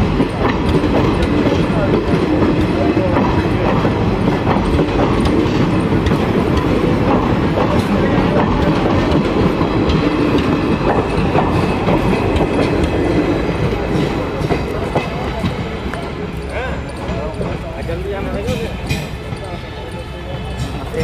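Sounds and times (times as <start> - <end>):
train wheels clattering over rail joints: 0.0 - 21.0.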